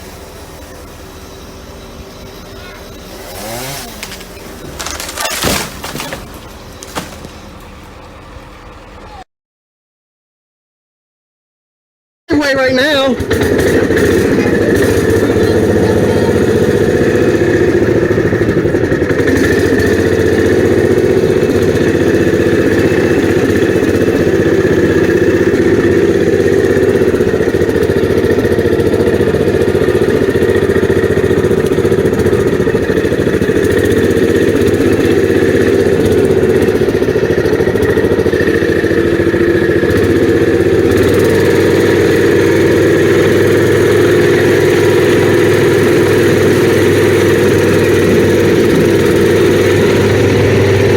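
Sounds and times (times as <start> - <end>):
engine running steadily: 0.0 - 9.3, 12.3 - 50.9.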